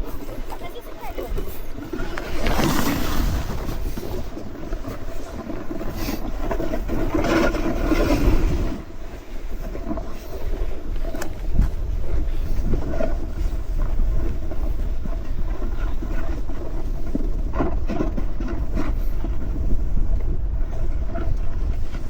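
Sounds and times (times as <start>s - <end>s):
snowboard scraping over snow: 0.0s - 22.0s
wind rumbling on microphone: 0.0s - 22.0s.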